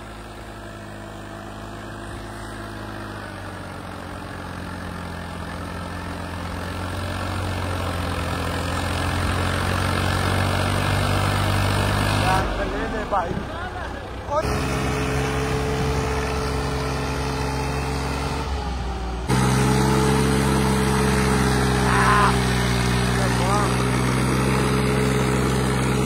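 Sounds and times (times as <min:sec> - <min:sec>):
tractor diesel engine labouring: 0:00.0 - 0:26.0.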